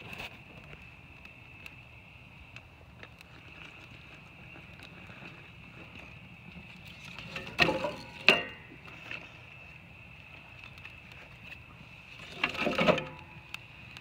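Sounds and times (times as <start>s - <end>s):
kindling fire crackling: 0.0s - 14.0s.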